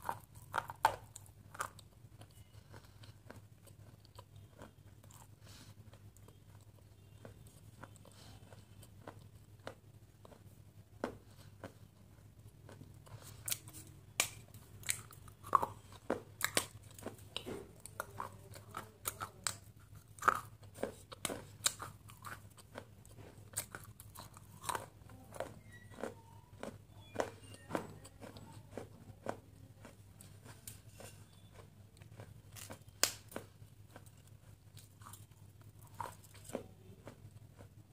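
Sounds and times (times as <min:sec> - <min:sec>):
mouth biting and chewing crunchy food: 0:00.0 - 0:37.9.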